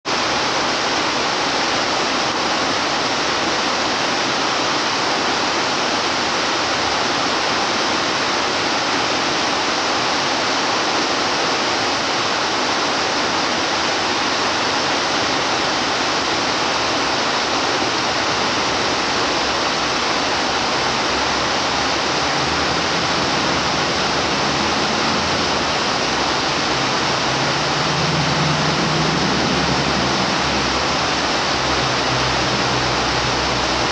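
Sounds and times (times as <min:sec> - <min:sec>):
waterfall rushing into pool: 0:00.0 - 0:33.9.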